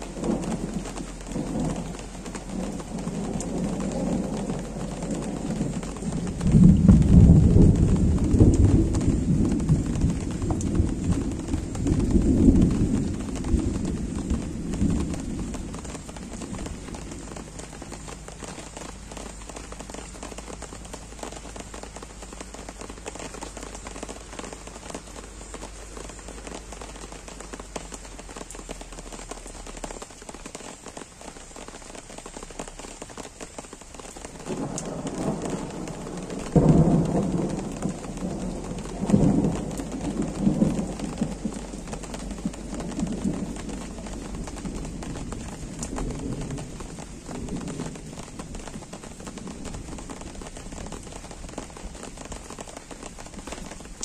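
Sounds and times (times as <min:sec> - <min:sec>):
gentle rain falling: 0:00.0 - 0:54.0
thunder rumbling and clapping: 0:00.0 - 0:54.0.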